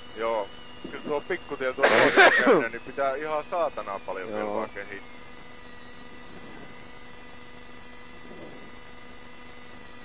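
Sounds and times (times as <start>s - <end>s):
electrical hum and hiss: 0.0s - 10.0s
constant tones: 0.1s - 9.2s.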